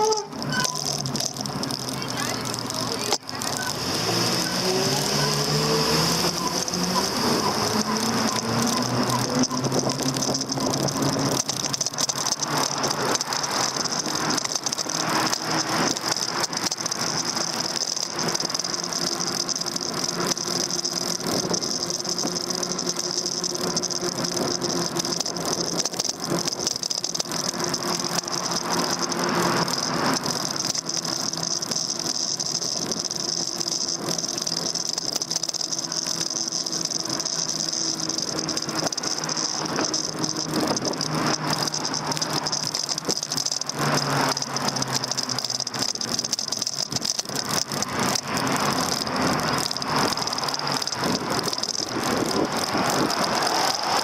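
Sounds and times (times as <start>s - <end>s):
bike rattling over road: 0.0s - 54.0s.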